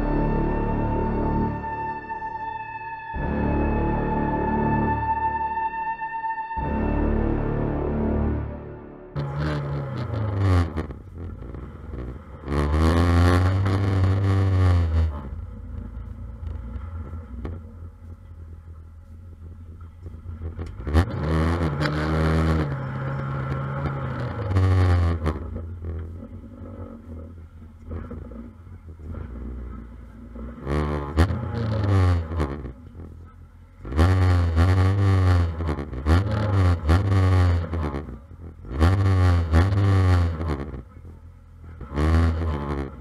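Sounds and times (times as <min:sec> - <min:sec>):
car engine revving and idling: 0:00.0 - 0:43.0.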